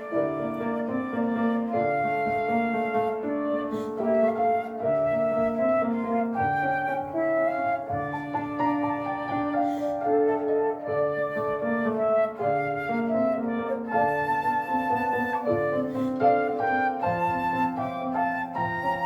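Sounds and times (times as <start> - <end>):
flute melody: 0.0 - 19.0
piano accompaniment: 0.0 - 19.0.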